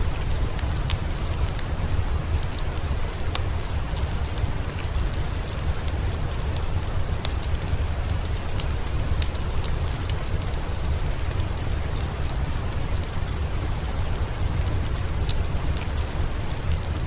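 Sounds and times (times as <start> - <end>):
fireplace fire crackling: 0.0 - 17.0
rain: 0.0 - 17.0.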